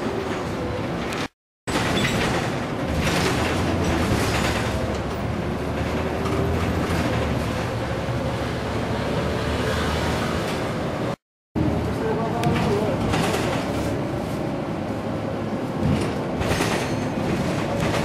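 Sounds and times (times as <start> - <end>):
bus engine hum: 0.0 - 18.0
road and body rumble: 0.0 - 18.0.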